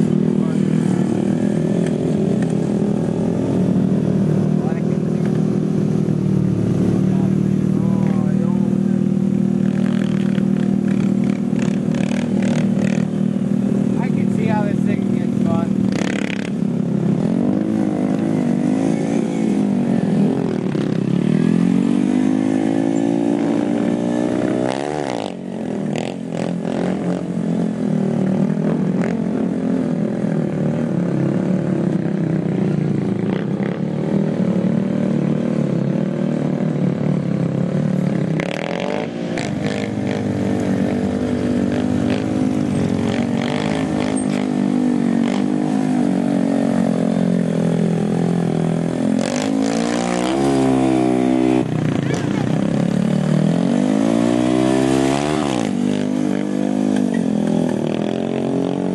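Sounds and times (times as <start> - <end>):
small motorbike engines revving: 0.0 - 58.9.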